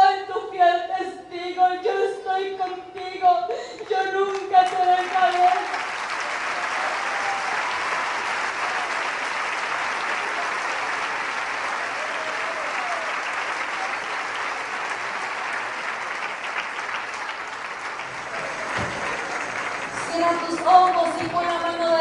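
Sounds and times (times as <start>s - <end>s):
large crowd applauding: 4.3s - 22.0s.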